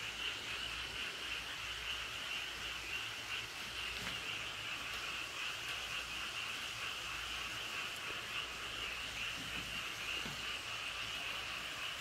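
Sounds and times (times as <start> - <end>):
frogs chorus calling: 0.0 - 12.0.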